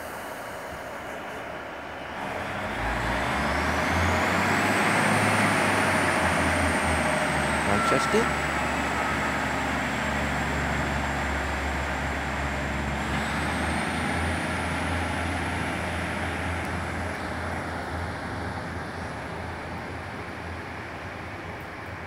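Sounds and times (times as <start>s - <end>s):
diesel train engines droning: 0.0s - 22.0s.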